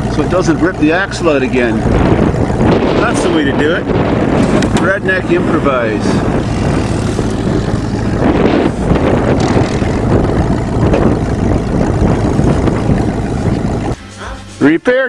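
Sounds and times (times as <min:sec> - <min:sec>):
wind buffeting microphone: 0:00.0 - 0:14.0
quad engine running: 0:00.0 - 0:14.8.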